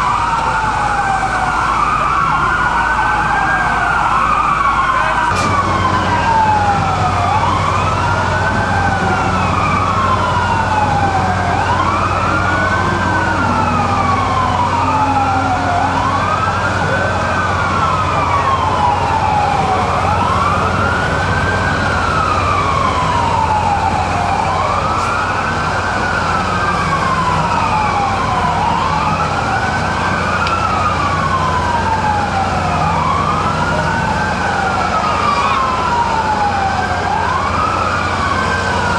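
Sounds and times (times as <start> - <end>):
fire truck sirens wailing: 0.0 - 38.9
low hum of idling engines: 0.0 - 38.9.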